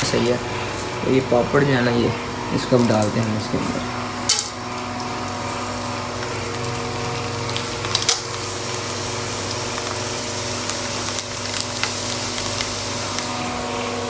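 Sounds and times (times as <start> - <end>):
steady hum: 0.0 - 14.0
food sizzling in hot oil: 2.3 - 14.0.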